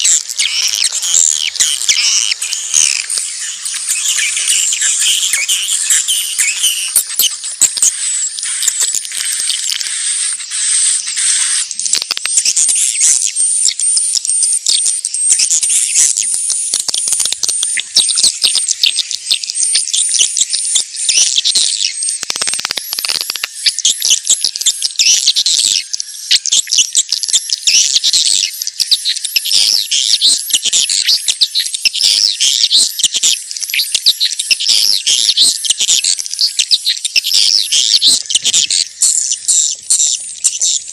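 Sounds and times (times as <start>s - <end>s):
swiftlets chirping and twittering: 0.0s - 40.9s.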